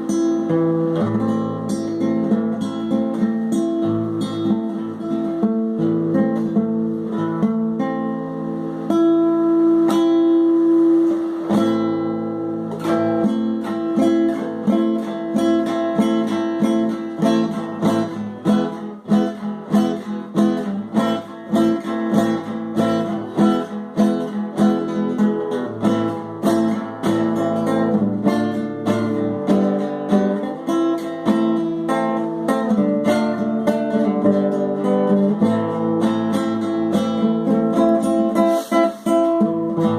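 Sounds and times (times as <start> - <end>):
acoustic guitar: 0.0 - 39.9.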